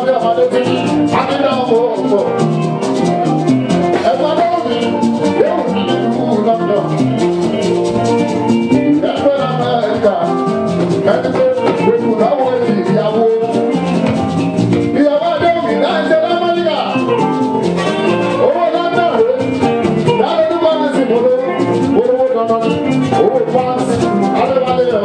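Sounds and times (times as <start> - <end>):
driving percussion with shakers: 0.0 - 25.0.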